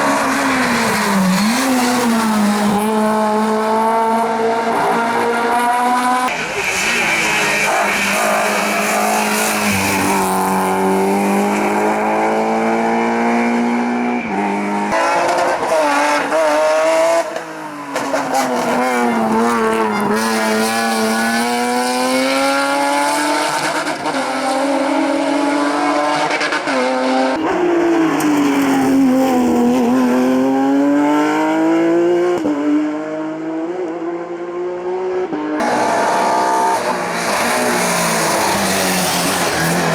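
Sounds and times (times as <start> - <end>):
race car engines at full throttle: 0.0 - 39.9.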